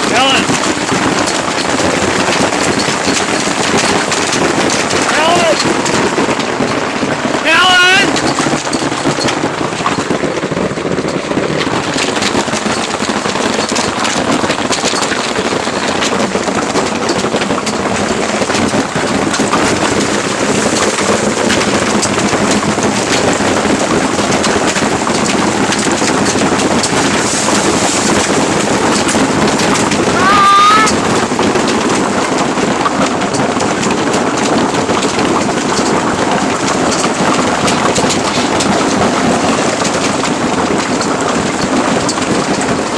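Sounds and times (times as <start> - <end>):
hail and rain beating down: 0.0 - 42.9.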